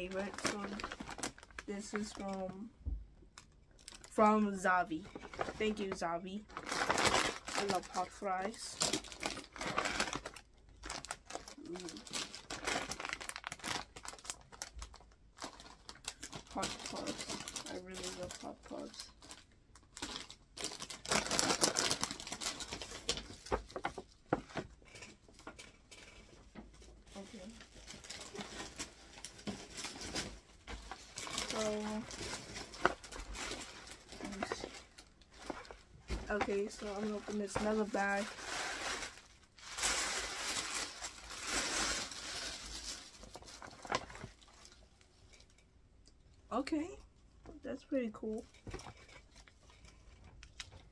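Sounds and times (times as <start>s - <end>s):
paper bag and packets rustling: 0.0s - 2.6s, 3.8s - 45.6s.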